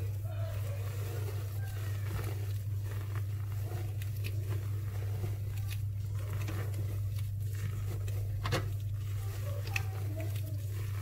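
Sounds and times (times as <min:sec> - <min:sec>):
spatula scraping metal bowl: 0:00.0 - 0:11.0
steady low hum: 0:00.0 - 0:11.0.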